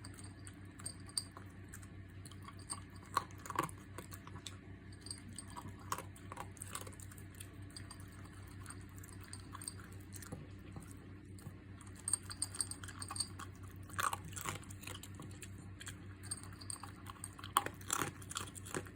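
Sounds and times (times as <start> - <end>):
puppy crunching food: 0.0 - 18.9.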